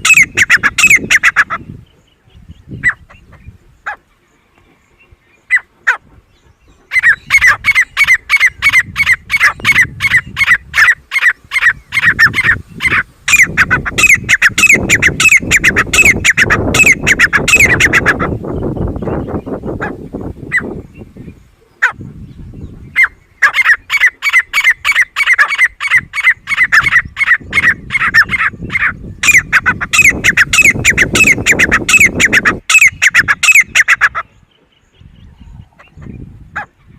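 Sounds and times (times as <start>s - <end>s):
bird calling sharp high calls: 0.0s - 36.9s.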